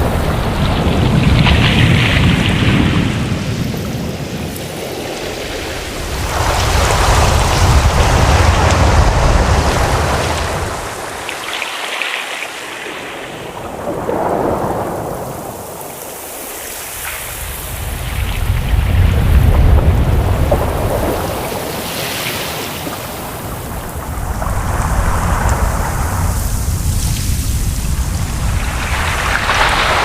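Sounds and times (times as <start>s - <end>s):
deep surf rumble: 0.0s - 11.4s, 13.4s - 30.0s
waves breaking and washing in: 0.0s - 30.0s.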